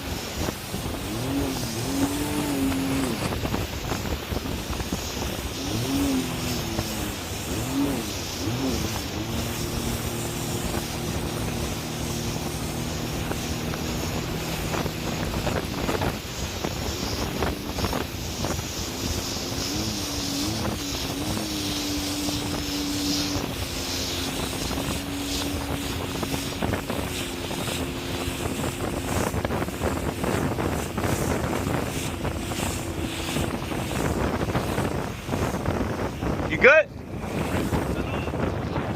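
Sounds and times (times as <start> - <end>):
jet ski engine: 0.0 - 38.9
wind buffeting microphone: 0.0 - 38.9.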